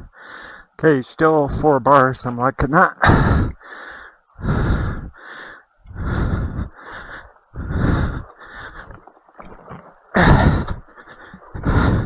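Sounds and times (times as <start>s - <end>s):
person breathing hard: 0.0s - 0.8s, 3.0s - 12.0s.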